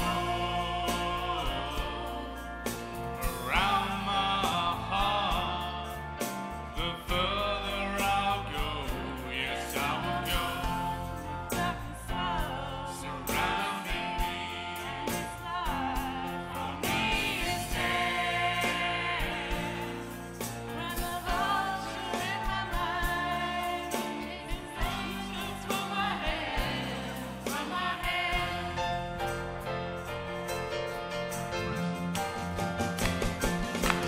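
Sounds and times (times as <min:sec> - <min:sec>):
steady drum beat: 0:00.0 - 0:29.0, 0:31.6 - 0:34.0
people singing together: 0:00.0 - 0:29.4
bass guitar: 0:00.0 - 0:34.0
live band playing: 0:00.0 - 0:34.0.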